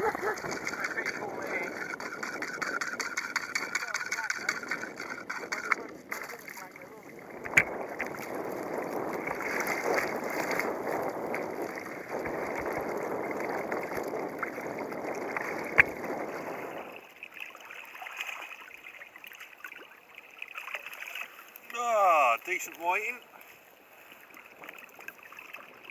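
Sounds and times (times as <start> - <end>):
water splashing against kayak hull: 0.0 - 25.9.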